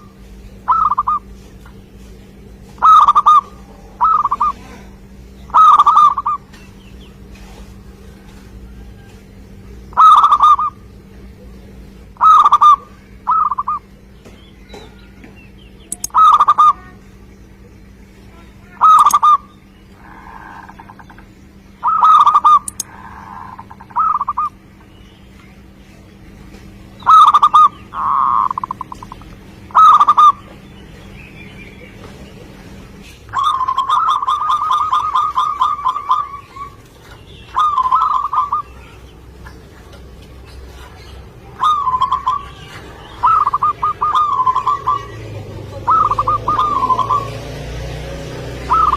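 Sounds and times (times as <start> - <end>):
dove cooing: 0.0 - 14.0, 15.9 - 17.3, 18.4 - 24.7, 26.6 - 30.6, 31.9 - 48.9.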